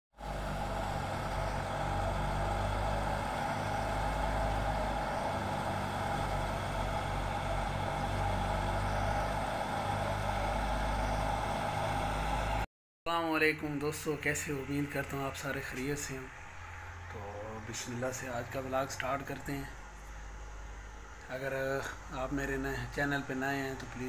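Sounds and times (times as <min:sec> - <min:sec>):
thresher engine drone: 0:00.2 - 0:12.7, 0:13.6 - 0:24.0.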